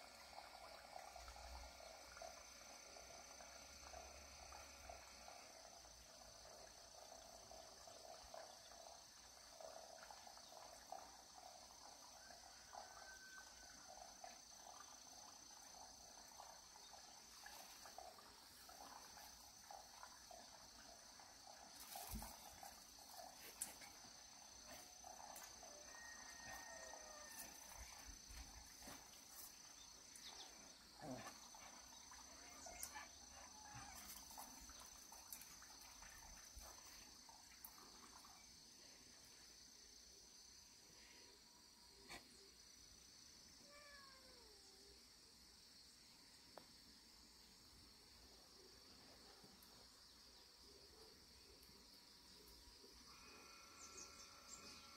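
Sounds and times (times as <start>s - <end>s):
faint chirps: 0.0s - 45.1s, 47.4s - 54.9s
insects trilling: 0.0s - 54.9s.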